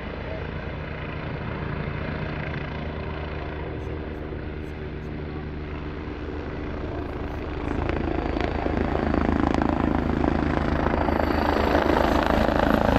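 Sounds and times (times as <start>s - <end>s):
helicopter rotor beating: 0.0s - 12.9s
high turbine whine: 1.0s - 12.9s.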